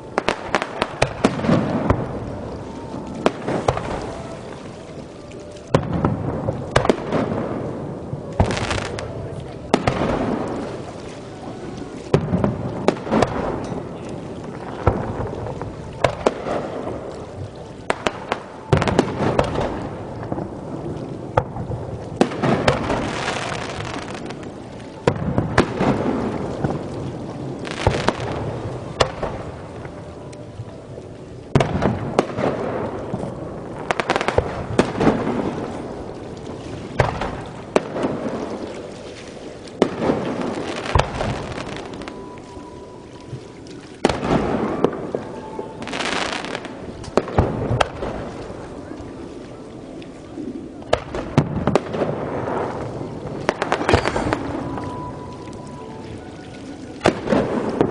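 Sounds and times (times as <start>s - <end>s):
firework crackle: 0.0s - 57.9s.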